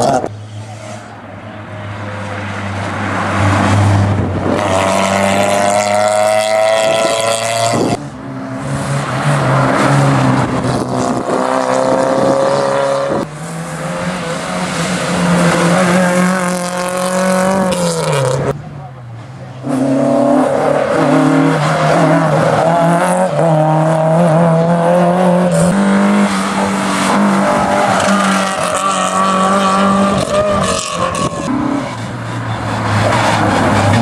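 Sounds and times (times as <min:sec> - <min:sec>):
rally cars racing past: 0:00.0 - 0:34.0.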